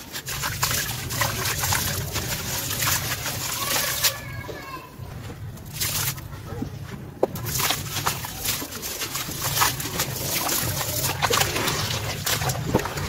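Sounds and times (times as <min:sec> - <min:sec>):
water splashing in basin: 0:00.0 - 0:04.3, 0:05.6 - 0:06.2, 0:07.2 - 0:13.0.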